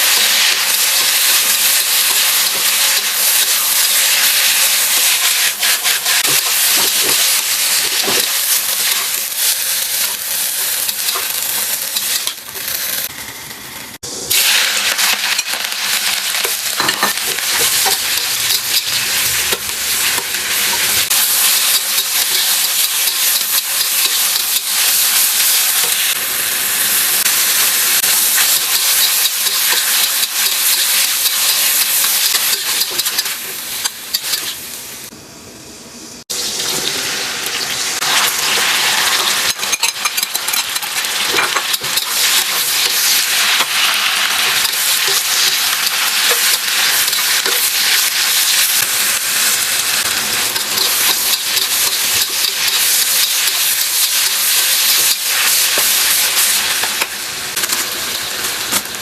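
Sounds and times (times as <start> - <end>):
food sizzling in oil: 0.0 - 35.1, 36.3 - 59.0.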